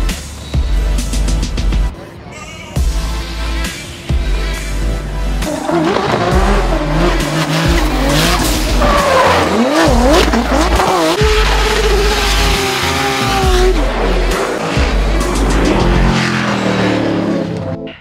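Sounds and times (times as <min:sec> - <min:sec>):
tyres squealing and skidding: 0:02.2 - 0:17.6
car engine revving: 0:02.9 - 0:17.8.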